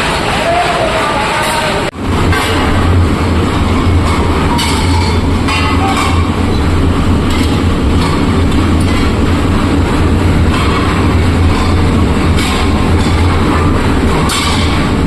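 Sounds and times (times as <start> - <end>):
furnace roaring: 0.0 - 15.0.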